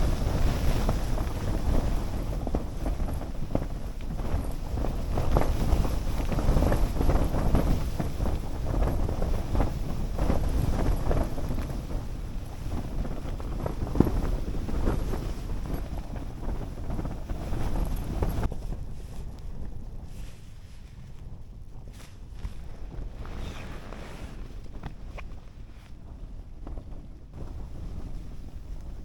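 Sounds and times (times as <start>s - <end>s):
wind gusting against tent: 0.0s - 29.0s
wind rumble on microphone: 0.0s - 29.0s.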